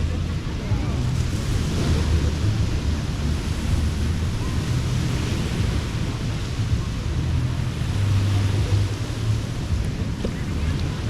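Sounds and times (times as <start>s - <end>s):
ocean waves on a beach: 0.0s - 11.0s
wind rumble on microphone: 0.0s - 11.0s.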